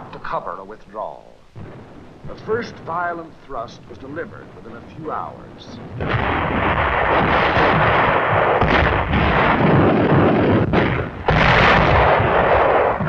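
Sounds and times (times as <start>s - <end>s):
artillery shell bursts: 0.0s - 13.0s
gunfire: 1.6s - 13.0s.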